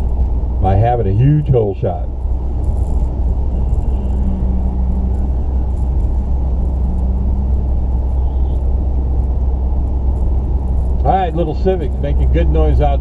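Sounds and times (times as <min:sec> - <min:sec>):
car engines rumbling: 0:00.0 - 0:13.0
held engine tone: 0:00.0 - 0:13.0.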